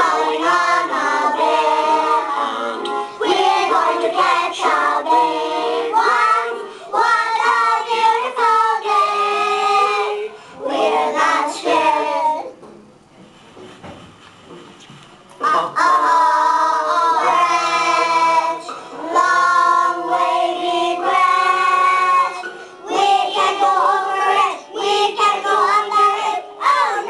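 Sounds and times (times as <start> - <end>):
children singing in unison: 0.0 - 12.5, 15.4 - 27.0.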